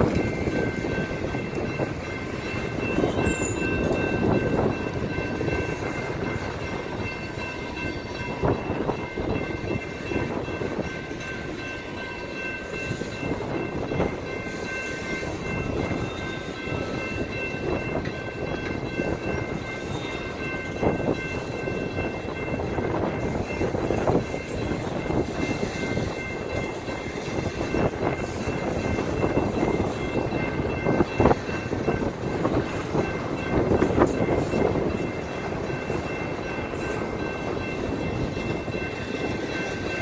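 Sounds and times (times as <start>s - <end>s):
freight train rumbling past: 0.0s - 40.0s
high ringing crossing bell: 0.0s - 40.0s.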